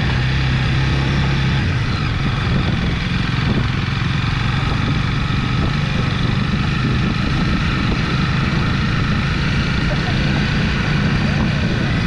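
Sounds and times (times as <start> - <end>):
motorbike engine running: 0.0 - 12.0
wind and road noise: 0.0 - 12.0.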